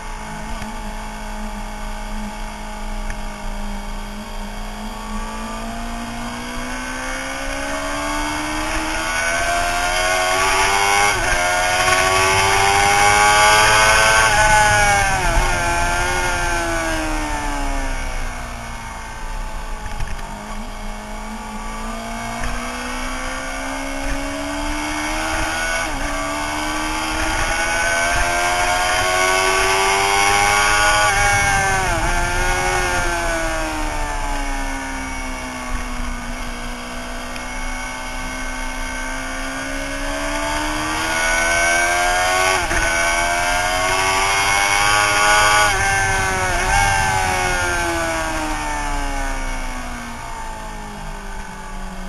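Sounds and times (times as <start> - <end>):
gear changes: 0.0 - 52.0
motorcycle engine revving: 0.0 - 52.0.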